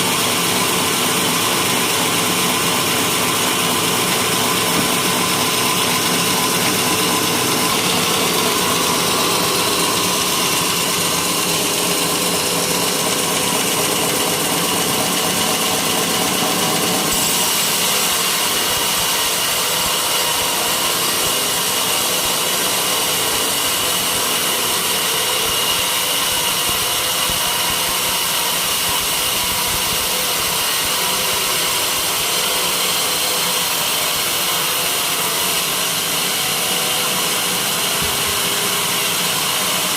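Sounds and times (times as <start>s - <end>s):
saw cutting wood whine: 0.0s - 39.9s.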